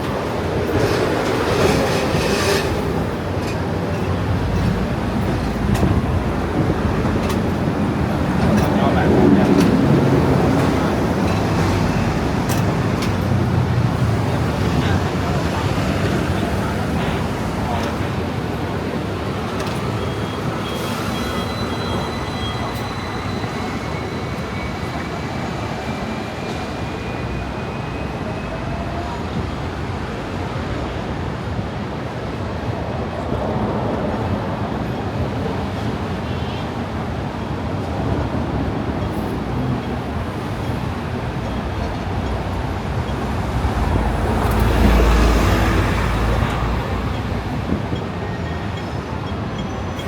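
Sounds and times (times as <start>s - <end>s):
city traffic rumble: 0.0s - 50.0s.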